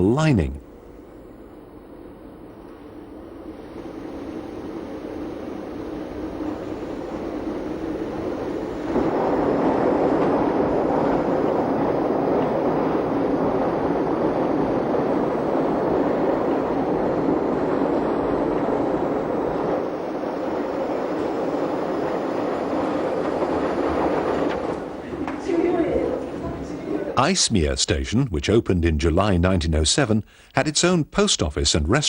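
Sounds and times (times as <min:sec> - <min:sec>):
train rumbling through tunnel: 0:00.0 - 0:30.3.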